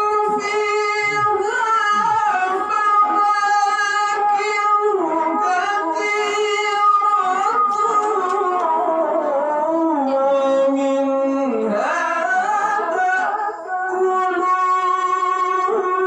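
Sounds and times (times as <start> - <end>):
man chanting recitation: 0.0 - 16.0.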